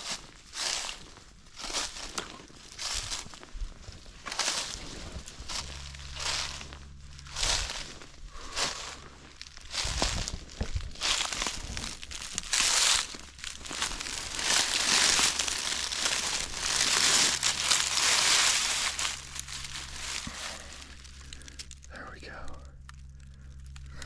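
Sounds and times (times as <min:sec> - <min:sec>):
footsteps crunching dry leaves: 0:00.0 - 0:22.4.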